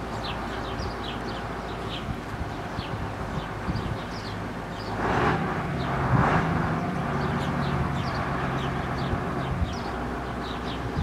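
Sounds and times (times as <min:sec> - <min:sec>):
small birds chirping: 0:00.0 - 0:06.0, 0:06.7 - 0:11.0
vehicle engine drone: 0:00.0 - 0:11.0
wind buffeting microphone: 0:00.0 - 0:11.0.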